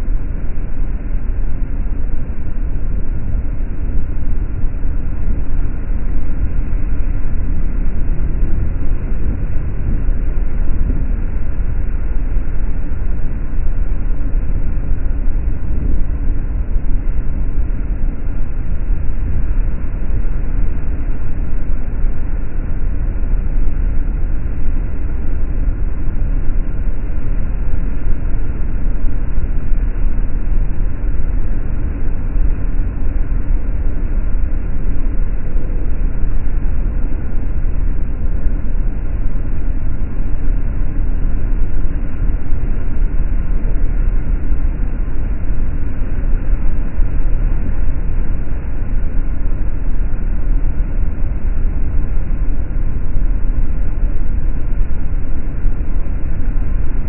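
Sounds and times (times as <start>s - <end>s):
boat engine rumble: 0.0s - 57.0s.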